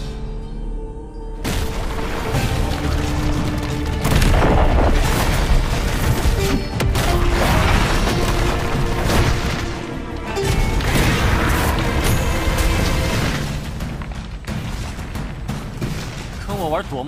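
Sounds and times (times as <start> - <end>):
dramatic soundtrack music: 0.0 - 17.0
rock crashing and falling: 1.4 - 17.0.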